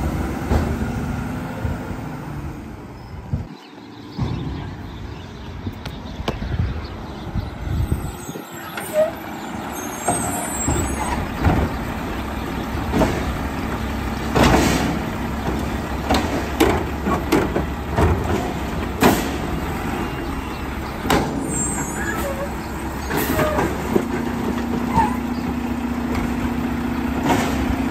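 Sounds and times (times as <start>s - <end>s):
garbage truck diesel engine: 0.0s - 27.9s.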